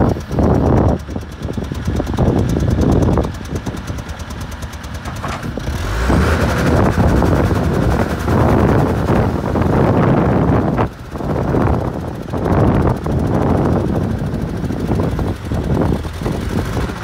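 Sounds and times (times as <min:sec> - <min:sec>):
backhoe diesel engine running: 0:00.0 - 0:17.0.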